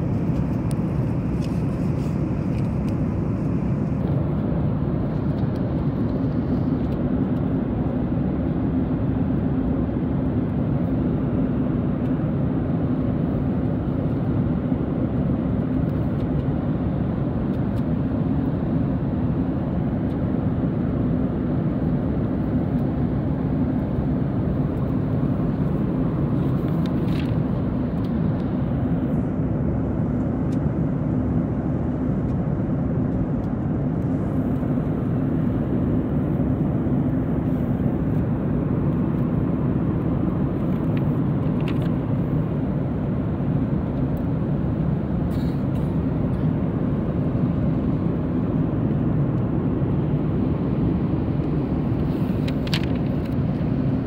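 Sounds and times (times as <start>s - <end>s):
engine rumble and rushing air: 0.0s - 54.0s
faint hum: 0.0s - 54.0s.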